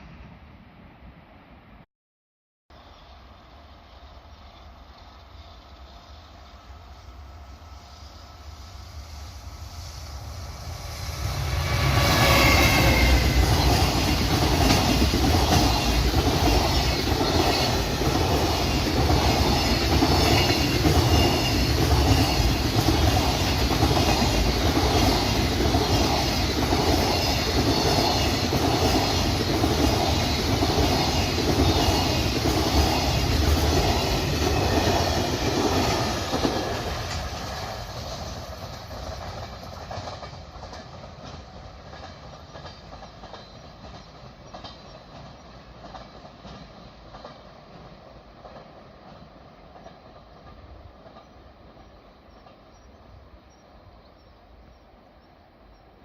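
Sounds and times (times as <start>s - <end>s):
freight train rumbling: 2.8s - 56.0s.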